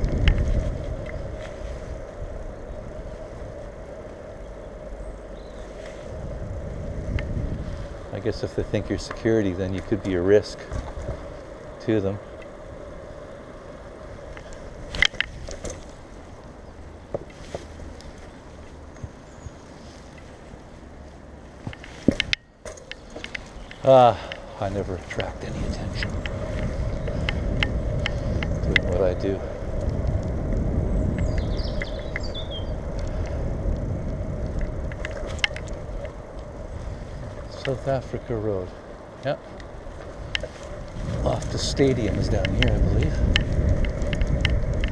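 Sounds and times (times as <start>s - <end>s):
bike clicks and rattles: 0.0s - 20.7s, 21.5s - 44.9s
bicycle tyres and wind rushing: 0.0s - 44.9s.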